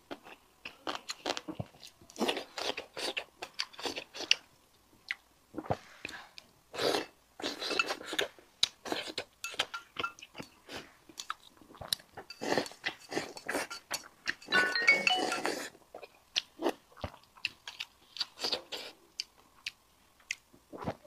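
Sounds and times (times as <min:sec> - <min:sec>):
person chewing: 0:00.1 - 0:04.5, 0:05.1 - 0:21.0.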